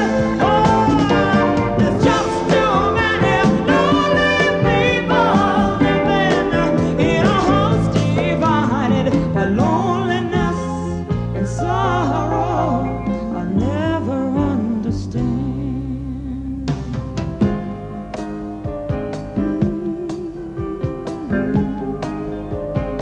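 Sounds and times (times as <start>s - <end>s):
drums and percussion: 0.0s - 12.2s, 16.6s - 23.0s
woman singing lead: 0.0s - 18.1s, 19.0s - 23.0s.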